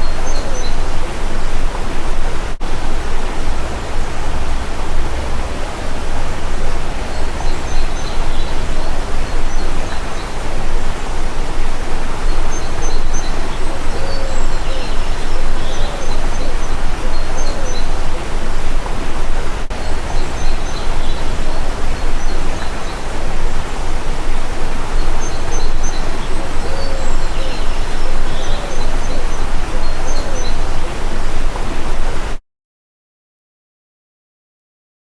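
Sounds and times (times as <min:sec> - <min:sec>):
stream running water: 0:00.0 - 0:32.4.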